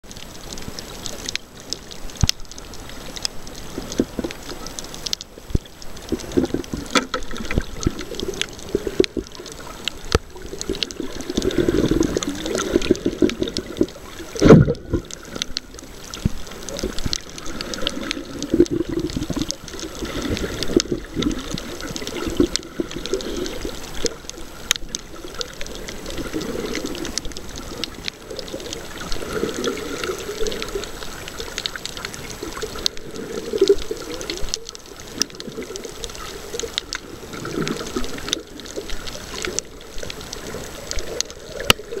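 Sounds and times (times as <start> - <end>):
water gurgling and sloshing: 0.0 - 42.0
small irregular clicks: 0.1 - 42.0.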